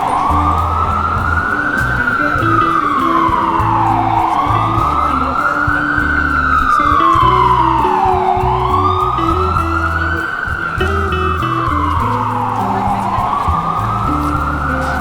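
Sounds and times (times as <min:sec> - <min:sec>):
emergency vehicle siren wailing: 0:00.0 - 0:15.0
music playing: 0:00.0 - 0:15.0.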